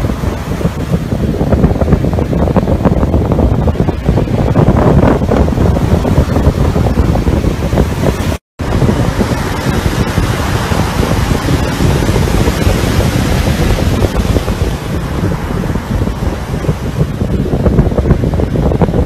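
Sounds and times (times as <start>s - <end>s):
sea surf surging: 0.0s - 19.0s
wind buffeting microphone: 0.0s - 19.0s.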